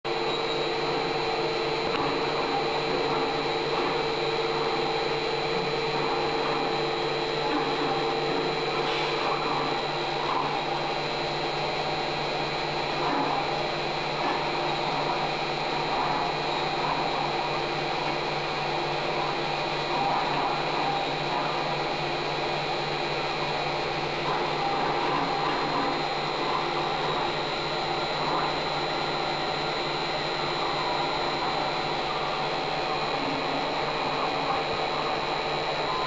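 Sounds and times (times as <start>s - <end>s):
milling machine motor humming: 0.1s - 36.0s.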